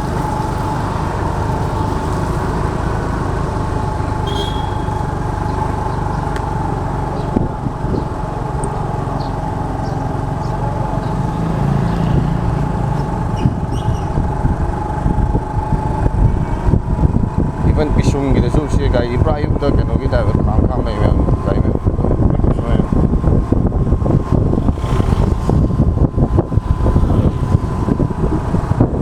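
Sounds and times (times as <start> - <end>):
motor scooter engine whine: 0.0 - 29.0.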